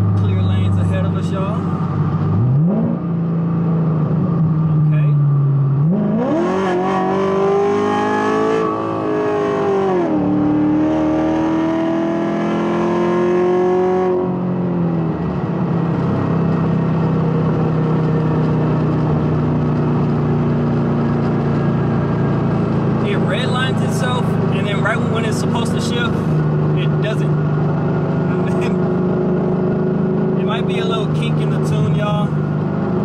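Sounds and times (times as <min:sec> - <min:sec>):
car engine accelerating and revving: 0:00.0 - 0:33.0.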